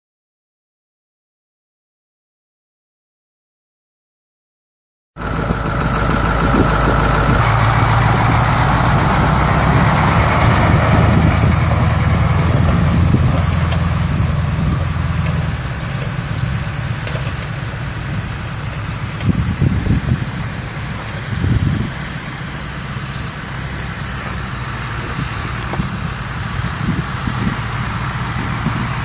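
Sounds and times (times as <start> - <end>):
diesel truck engine running: 5.2 - 29.0.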